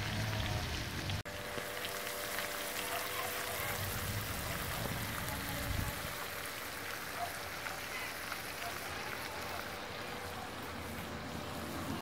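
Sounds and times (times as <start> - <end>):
meat sizzling in a frying pan: 0.0 - 9.7.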